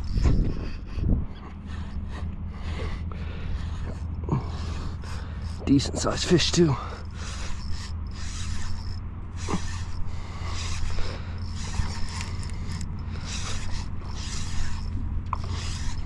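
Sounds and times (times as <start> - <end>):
fishing reel gears whirring and clicking: 0.0 - 16.0.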